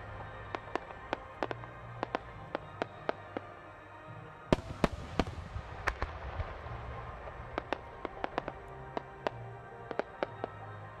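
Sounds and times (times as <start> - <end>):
firework bangs: 0.0 - 3.6, 4.5 - 10.7
sharp firework cracks: 0.0 - 3.6, 4.5 - 10.6.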